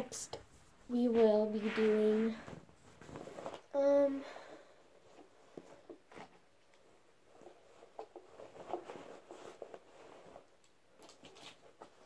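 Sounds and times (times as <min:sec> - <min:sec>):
faint rustling: 0:00.1 - 0:12.0.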